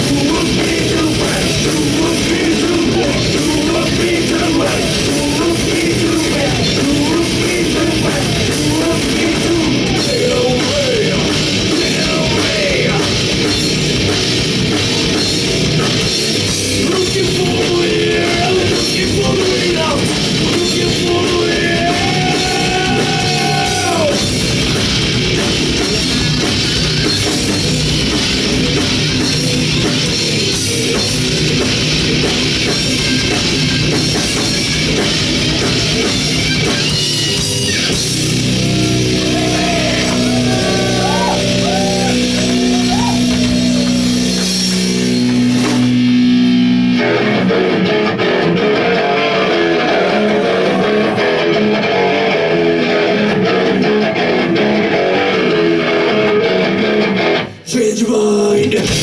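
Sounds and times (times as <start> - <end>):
drums: 0.0 - 59.0
heavy metal band playing live: 0.0 - 59.0.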